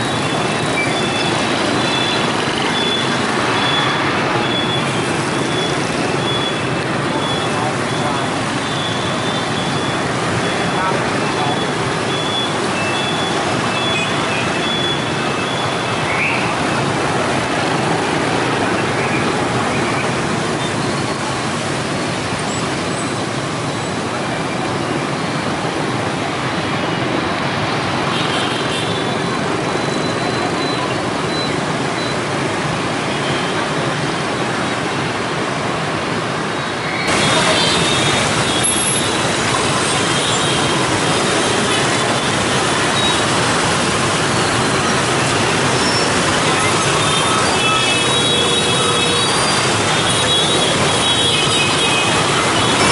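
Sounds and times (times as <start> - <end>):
motorbike and scooter traffic: 0.0 - 52.9.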